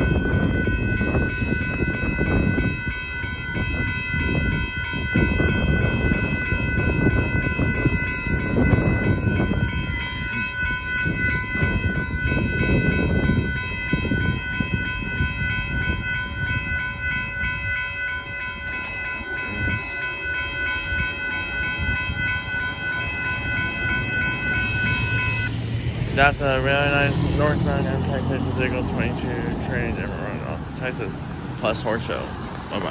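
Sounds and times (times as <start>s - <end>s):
crossing warning bell ringing: 0.0s - 32.9s.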